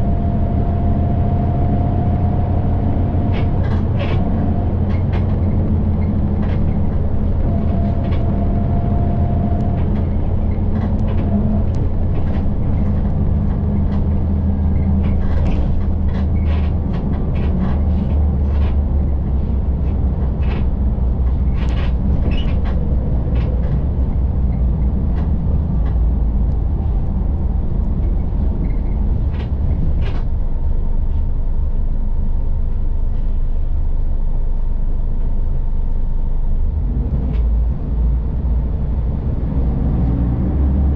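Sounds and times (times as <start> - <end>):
interior rattles and clicks: 0.0 - 34.1, 35.2 - 40.9
bus engine and road drone: 0.0 - 40.9.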